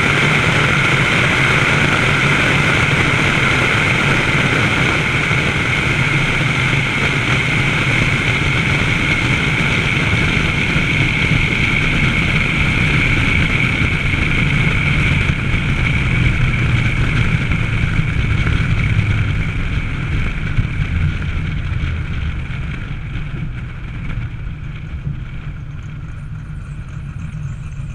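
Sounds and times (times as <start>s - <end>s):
car engine running: 0.0s - 27.9s
wind rushing over camera: 0.0s - 27.9s.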